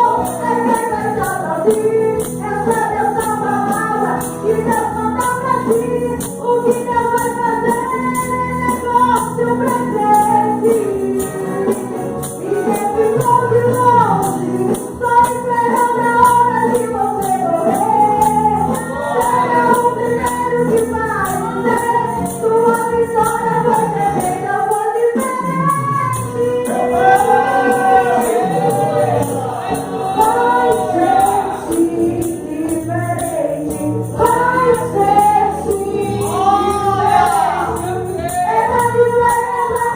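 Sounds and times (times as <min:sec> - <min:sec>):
group singing worship songs: 0:00.0 - 0:39.9
tambourine shaken to a beat: 0:00.0 - 0:39.9.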